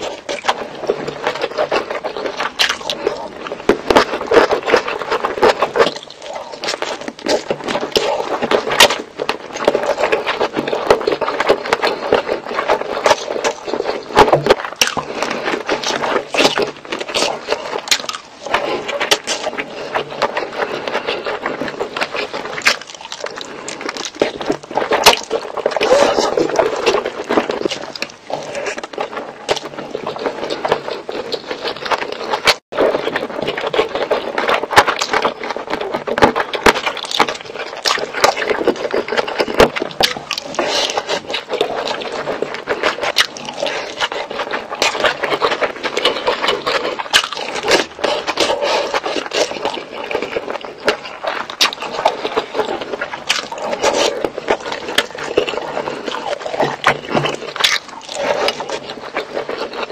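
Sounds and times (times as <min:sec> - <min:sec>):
chewing and wet mouth noises: 0:00.0 - 0:59.9.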